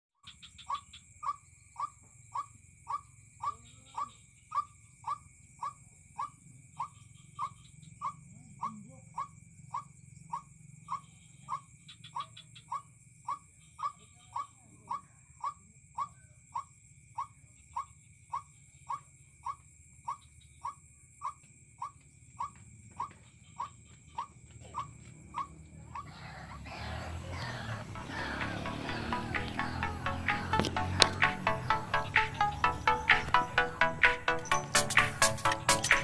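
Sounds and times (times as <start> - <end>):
insect drones: 0.2 - 36.0
waterhen calling: 0.3 - 36.0.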